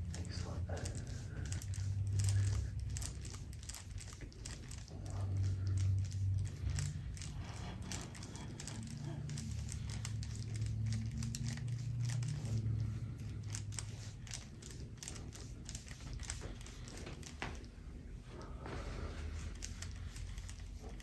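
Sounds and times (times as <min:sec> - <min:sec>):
low steady hum: 0:00.0 - 0:21.0
skin crinkling under massage: 0:00.0 - 0:21.0.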